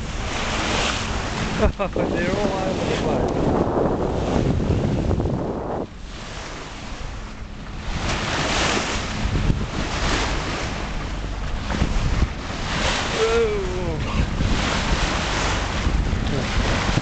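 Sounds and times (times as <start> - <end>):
waves and spray rushing: 0.0 - 17.0
wind buffeting microphone: 0.0 - 17.0.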